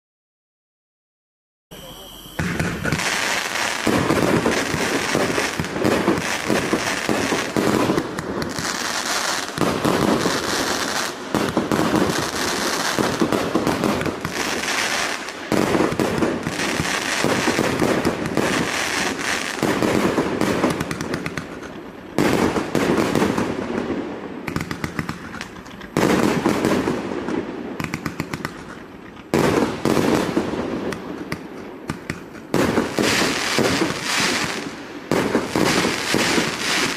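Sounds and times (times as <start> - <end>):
fireworks launches and bursts: 1.7 - 36.9.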